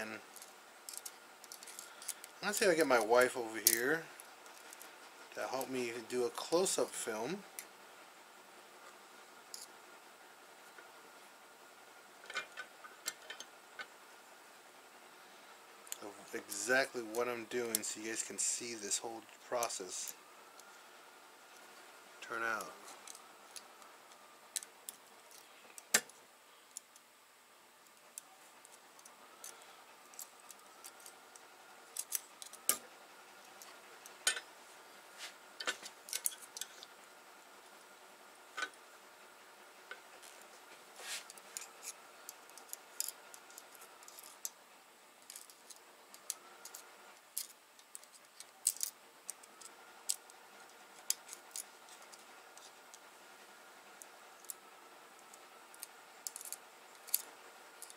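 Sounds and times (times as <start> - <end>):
faint hum: 0.0 - 57.9.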